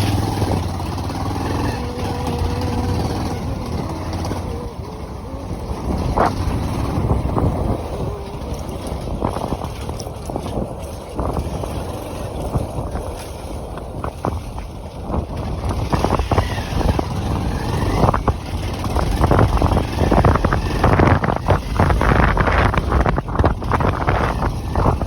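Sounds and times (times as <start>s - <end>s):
motorcycle running: 0.0s - 25.0s
wind buffeting microphone: 0.0s - 25.0s.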